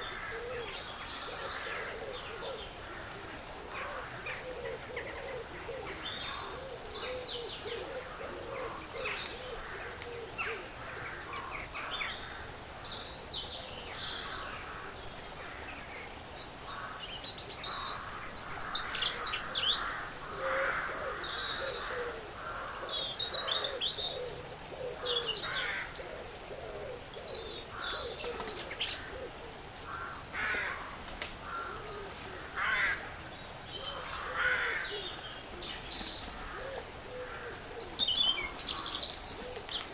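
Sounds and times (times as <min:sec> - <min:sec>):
birds chirping and trilling: 0:00.0 - 0:39.9
lower bird calls: 0:00.0 - 0:39.9.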